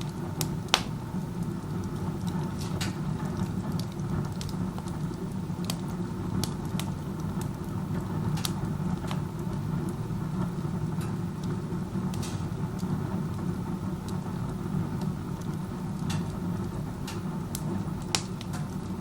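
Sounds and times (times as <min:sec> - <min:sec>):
burning wood crackling: 0:00.0 - 0:19.0.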